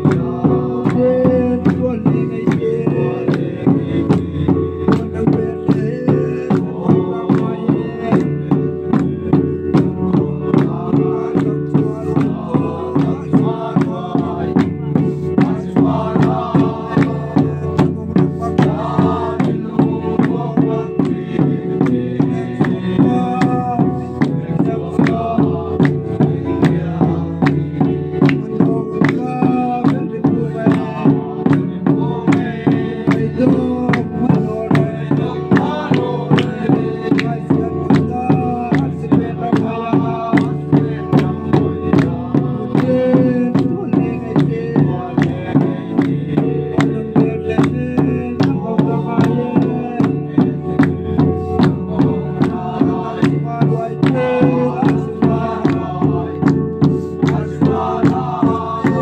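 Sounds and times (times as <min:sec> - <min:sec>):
hand-clapping: 0:00.0 - 0:05.9, 0:06.5 - 0:59.0
hand drums beating: 0:00.0 - 0:59.0
man singing into a microphone: 0:00.0 - 0:59.0.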